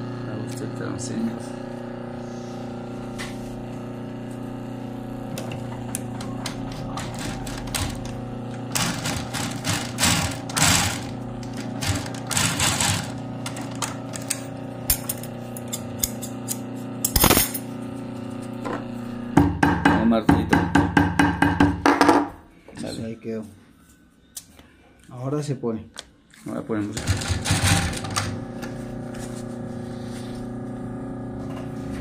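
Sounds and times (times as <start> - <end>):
steady machine hum: 0.0 - 23.2, 27.0 - 32.0.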